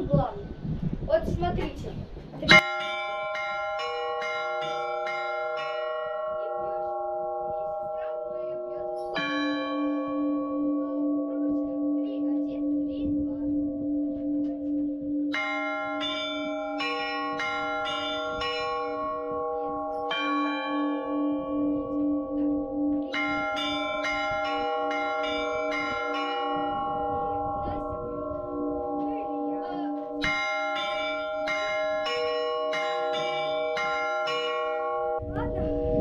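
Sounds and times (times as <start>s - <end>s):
low bell humming: 2.5s - 36.0s
small bells ringing: 2.5s - 36.0s.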